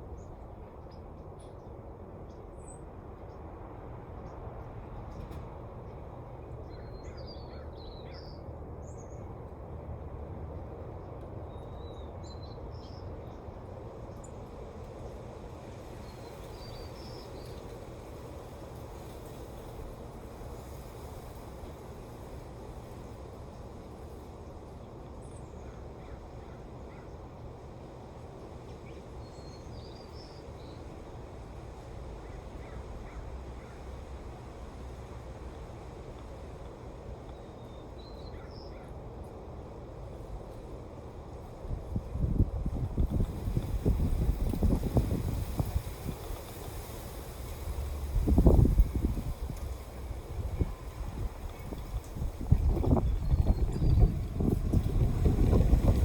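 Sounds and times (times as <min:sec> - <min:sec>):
wind blowing through trees: 0:01.8 - 0:56.0.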